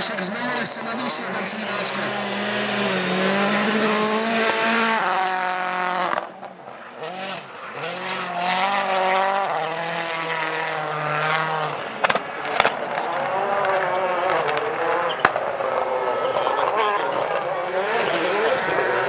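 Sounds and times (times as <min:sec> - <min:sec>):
rally car engine shifting gears: 0:00.0 - 0:19.0.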